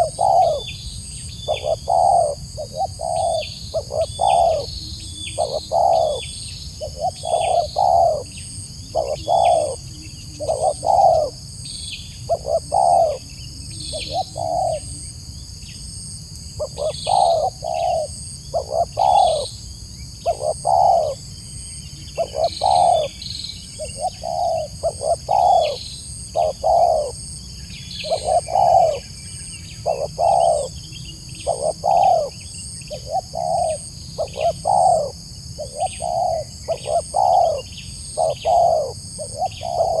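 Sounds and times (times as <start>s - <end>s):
dove cooing: 0.0s - 0.8s, 1.5s - 11.4s, 12.2s - 15.1s, 16.6s - 19.6s, 20.2s - 21.2s, 22.2s - 27.2s, 28.0s - 29.1s, 29.8s - 40.0s.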